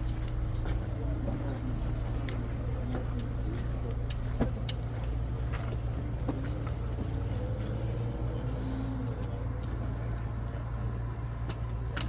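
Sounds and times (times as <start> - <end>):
faint crowd chatter: 0.0 - 12.0
low motor rumble: 0.0 - 12.0.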